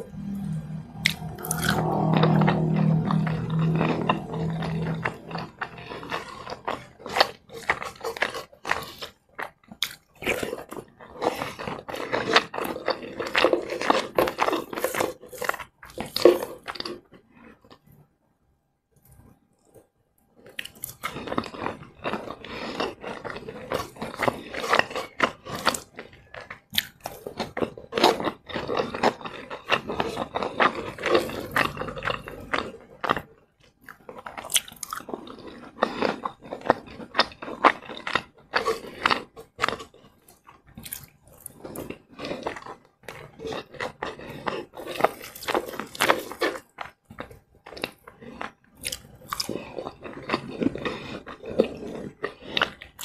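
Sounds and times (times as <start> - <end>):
crunchy chewing: 0.0 - 17.9, 20.4 - 53.0.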